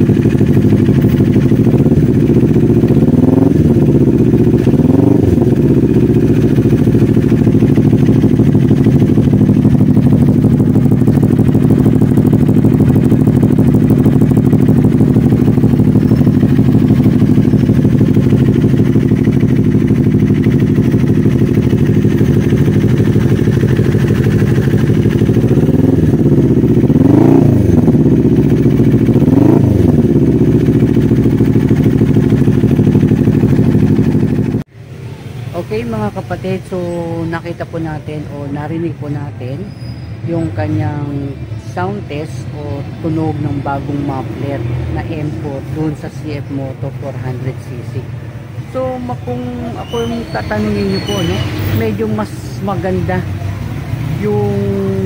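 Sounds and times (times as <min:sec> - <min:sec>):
engine revving: 0:00.0 - 0:34.7, 0:42.0 - 0:55.0
motorcycle engine idling: 0:00.0 - 0:55.0.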